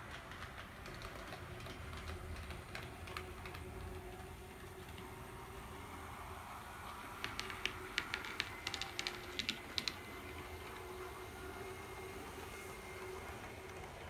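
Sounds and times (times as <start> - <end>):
model train whirring: 0.0 - 14.0
wheels clicking on track: 0.0 - 14.0.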